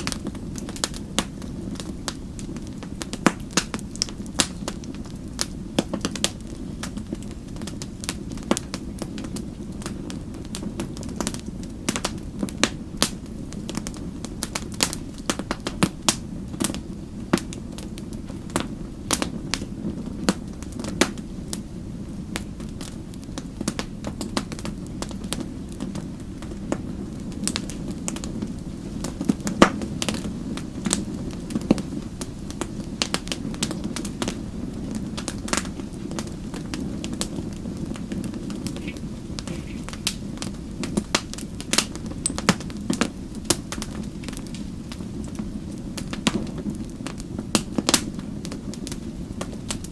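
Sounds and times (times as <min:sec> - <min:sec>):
fire crackling and popping: 0:00.0 - 0:49.9
low rumble of flames: 0:00.0 - 0:49.9.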